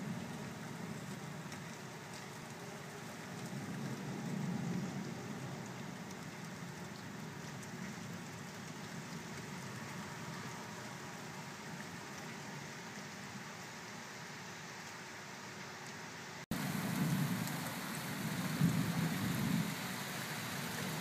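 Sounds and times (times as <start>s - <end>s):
rain drop ticks: 0.0s - 13.7s, 15.8s - 19.6s
steady rain hiss: 0.0s - 21.0s.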